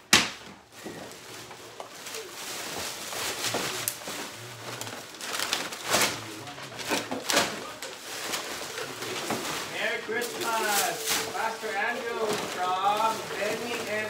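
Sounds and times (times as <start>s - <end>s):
gift bags rustling: 0.6s - 14.0s.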